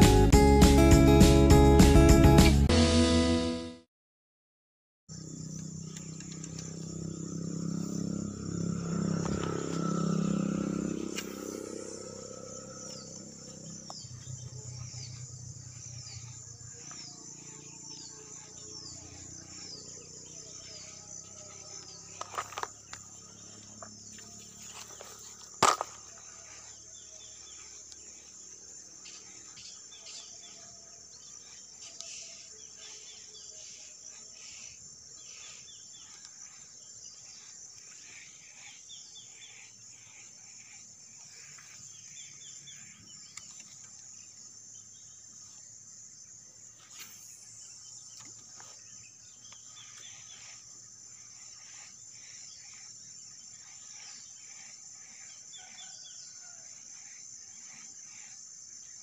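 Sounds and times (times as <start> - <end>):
high-pitched insect drone: 5.1 - 59.0
insect chirping calls: 5.1 - 59.0.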